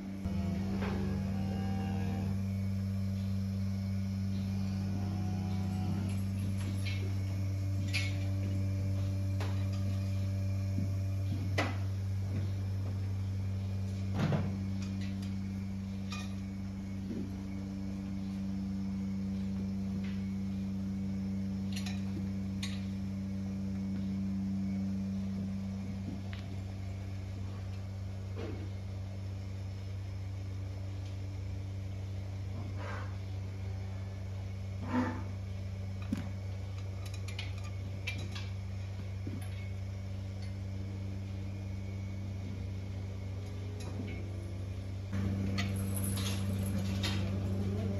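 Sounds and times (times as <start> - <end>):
milking machinery hum: 0.0 - 47.9.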